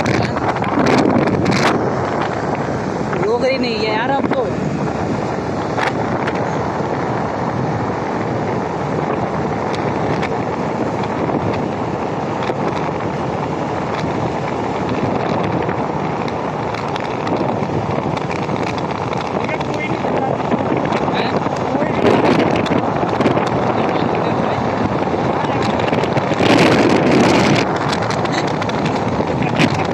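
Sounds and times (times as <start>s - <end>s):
road noise: 0.0s - 29.9s
scooter engine: 0.0s - 29.9s
wind rushing over microphone: 0.0s - 29.9s.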